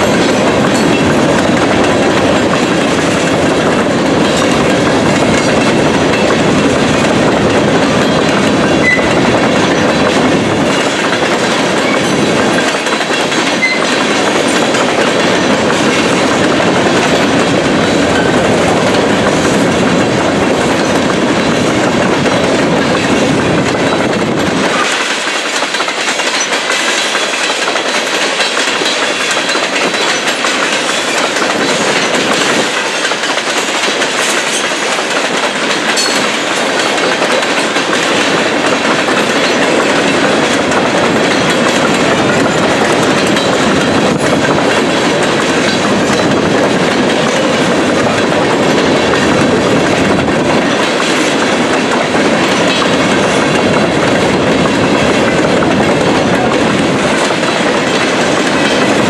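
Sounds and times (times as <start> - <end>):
train wheels clicking over joints: 0.0 - 59.0.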